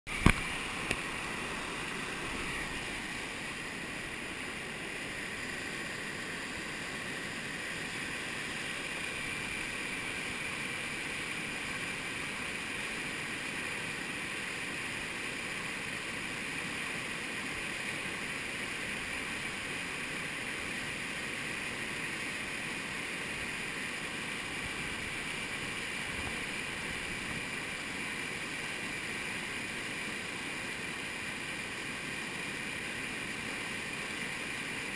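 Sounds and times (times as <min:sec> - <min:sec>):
whitewater rushing over a dam: 0:00.1 - 0:34.9.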